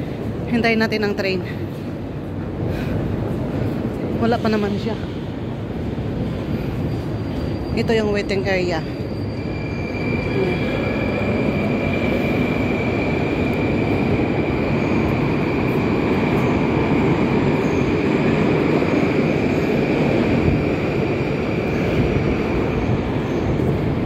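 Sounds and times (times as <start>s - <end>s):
metro train rumble: 0.0s - 24.0s.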